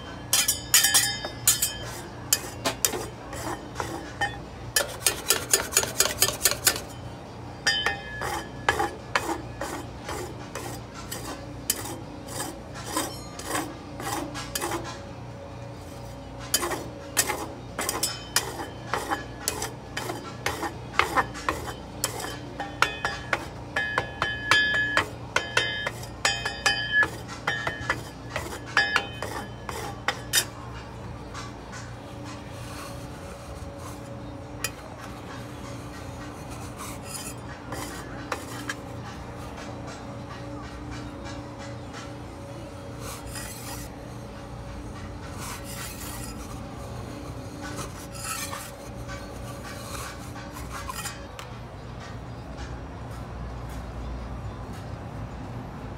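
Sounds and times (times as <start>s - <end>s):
metal spatulas scraping steel plate: 0.0s - 7.0s, 7.7s - 15.2s, 15.8s - 40.0s, 40.9s - 51.4s
steady low hum: 0.0s - 55.9s.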